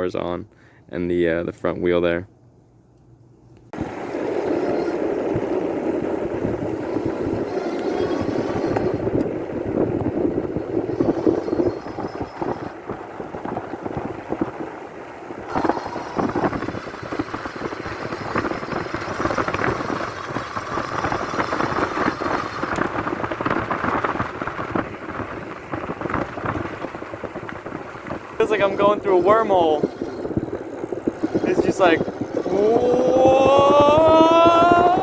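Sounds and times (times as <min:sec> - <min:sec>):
tyre and road rumble: 0:03.7 - 0:35.0
wind buffeting microphone: 0:03.7 - 0:35.0.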